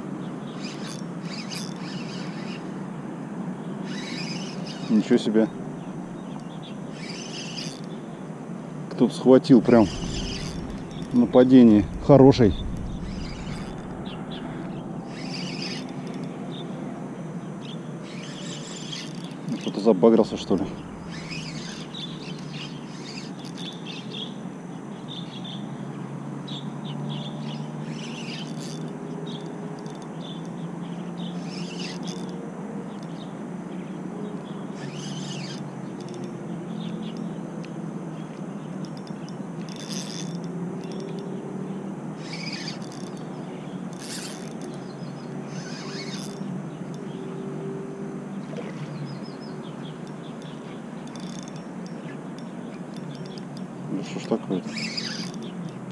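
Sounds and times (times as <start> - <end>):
low outdoor background rush: 0.0 - 55.9
birds chirping: 0.2 - 2.8, 3.4 - 55.9.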